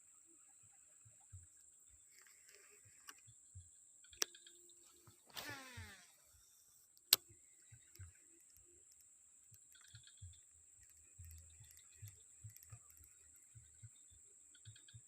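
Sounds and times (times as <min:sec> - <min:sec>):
faint knocks and ticks: 0:00.0 - 0:06.0, 0:06.8 - 0:15.0
steady high-pitched hiss: 0:00.0 - 0:15.0.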